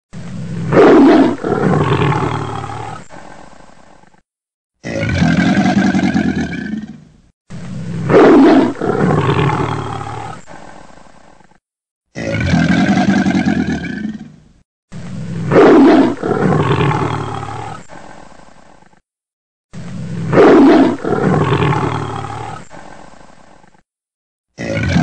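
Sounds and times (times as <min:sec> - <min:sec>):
big cat snarling and roaring: 0:00.1 - 0:04.2, 0:04.8 - 0:19.0, 0:19.7 - 0:23.8, 0:24.6 - 0:25.0.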